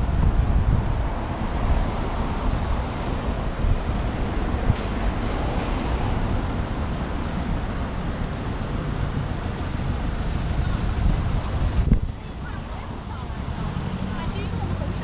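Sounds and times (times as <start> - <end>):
car traffic: 0.0 - 15.0
wind and road noise: 0.0 - 15.0.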